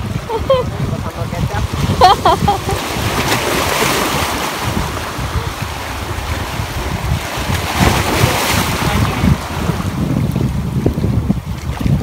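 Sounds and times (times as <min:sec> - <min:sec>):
wave breaking and splashing: 0:00.0 - 0:10.8
waves washing against rocks: 0:00.0 - 0:12.0
wind buffeting microphone: 0:00.0 - 0:12.0.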